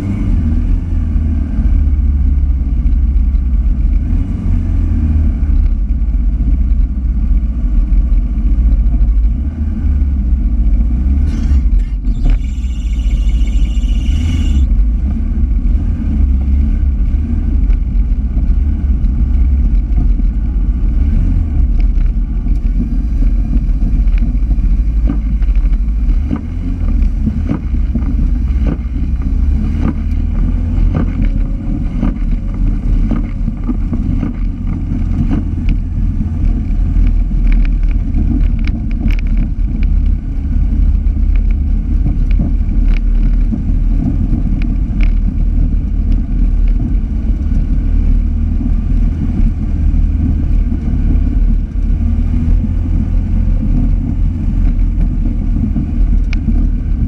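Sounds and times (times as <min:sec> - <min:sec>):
racing car engine drone: 0:00.0 - 0:57.0.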